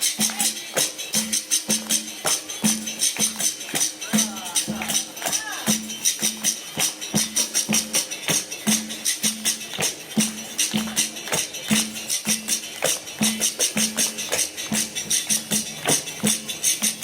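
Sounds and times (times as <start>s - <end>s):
pandeiro jingles: 0.0s - 17.0s
shaker: 0.0s - 17.0s.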